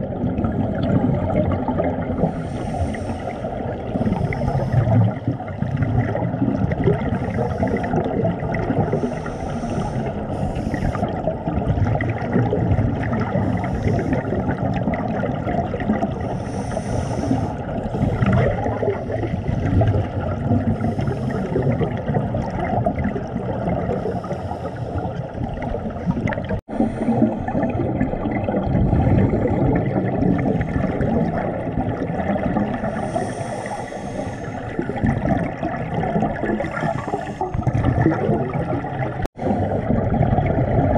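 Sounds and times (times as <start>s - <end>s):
bubbling exhaled air: 0.0s - 40.9s
muffled underwater water rush: 0.0s - 40.9s.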